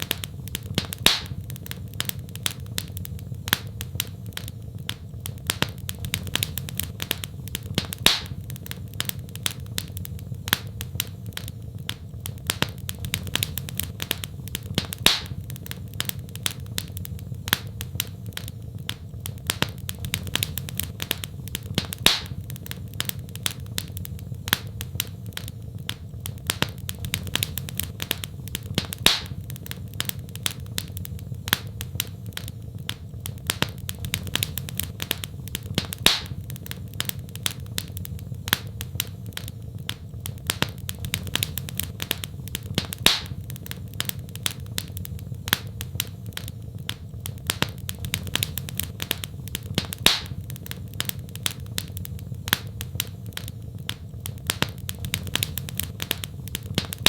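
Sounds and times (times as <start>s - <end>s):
low rumble of flame: 0.0s - 57.0s
wood fire crackling and popping: 0.0s - 57.0s.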